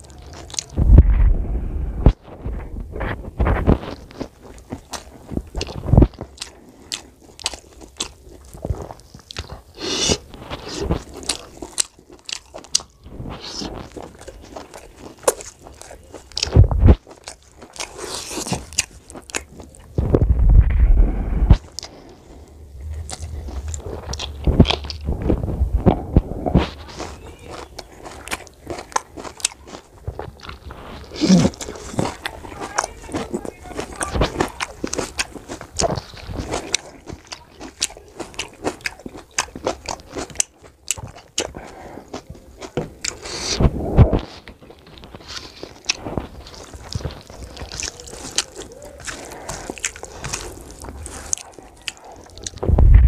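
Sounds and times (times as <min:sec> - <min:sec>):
wet chewing and lip smacks: 0:00.0 - 0:01.3, 0:02.2 - 0:20.2, 0:21.5 - 0:52.7
fingers squishing rice on plate: 0:02.1 - 0:52.6.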